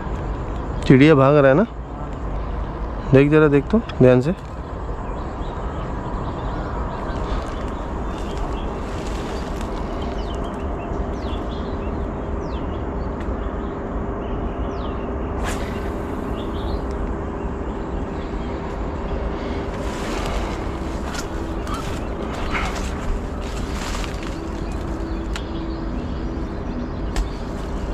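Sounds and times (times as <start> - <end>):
faint steady hum: 0.0 - 27.9
low outdoor rumble: 0.0 - 27.9
bird chirping: 3.8 - 27.9.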